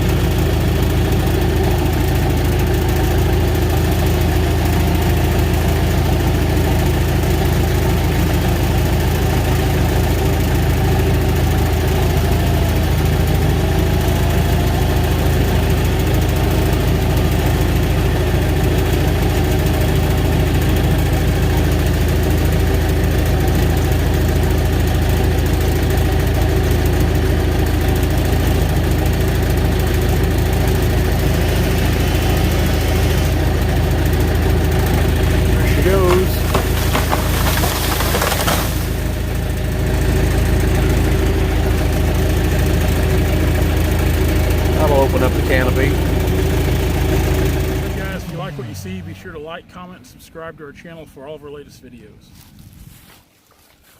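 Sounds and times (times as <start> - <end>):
heavy machine engine running: 0.0 - 50.0.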